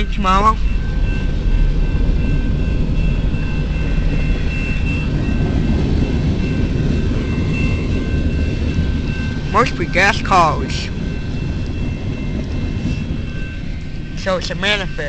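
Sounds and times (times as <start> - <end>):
freight train rumbling past: 0.0 - 15.0
high-pitched tones: 0.0 - 15.0.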